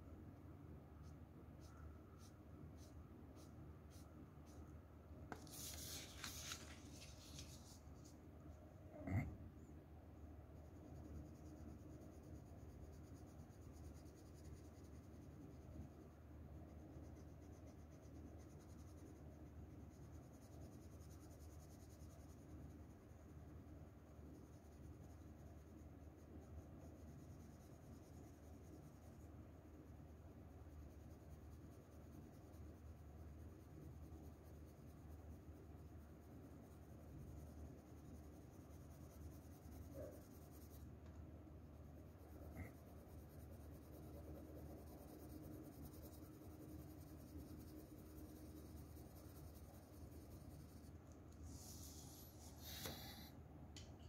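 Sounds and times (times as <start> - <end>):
pencil scratching on paper: 1.0 - 4.6, 5.3 - 8.1, 10.5 - 40.9, 41.9 - 53.3.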